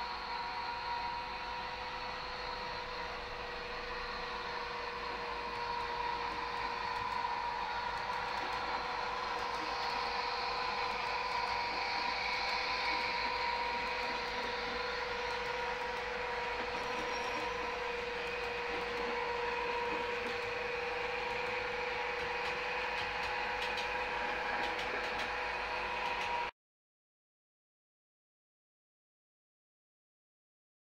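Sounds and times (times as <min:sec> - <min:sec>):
model train wheels rolling: 0:00.0 - 0:26.5.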